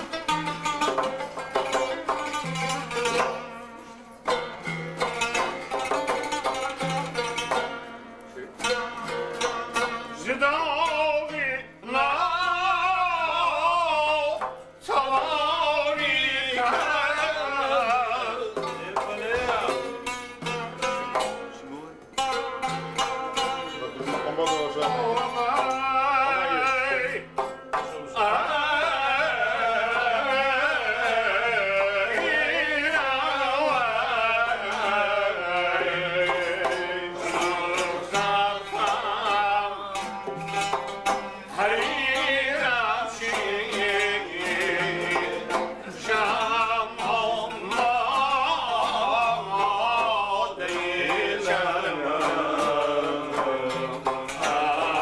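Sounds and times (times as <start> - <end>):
plucked lute: 0.0 - 55.0
man singing: 8.6 - 21.4, 23.1 - 55.0.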